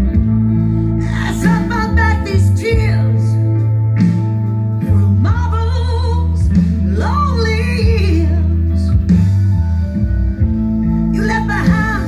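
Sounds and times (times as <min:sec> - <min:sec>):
song over loud speakers: 0:00.0 - 0:12.0.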